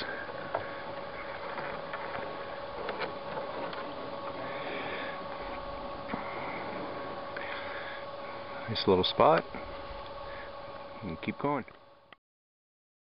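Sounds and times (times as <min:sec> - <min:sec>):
reeds swishing along canoe hull: 0:00.0 - 0:11.0
steady hum: 0:00.0 - 0:12.2.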